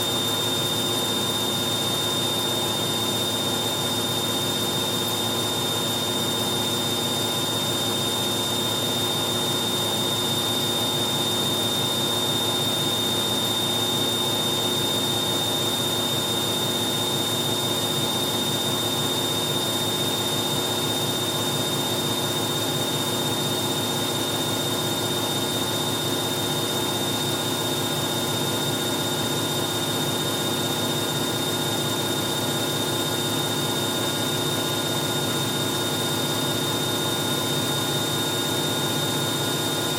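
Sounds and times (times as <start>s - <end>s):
washing machine spin cycle whine: 0.0s - 39.9s.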